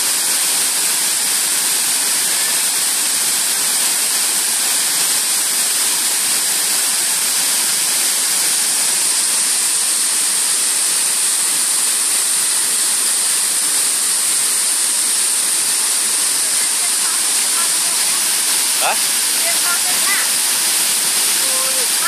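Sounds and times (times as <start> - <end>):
waterfall rushing into a pool: 0.0 - 22.0.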